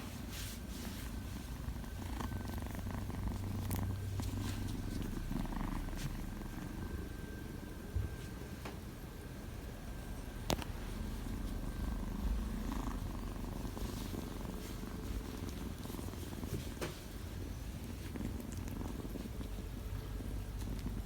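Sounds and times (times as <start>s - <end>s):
kitten purring: 0.0s - 21.0s.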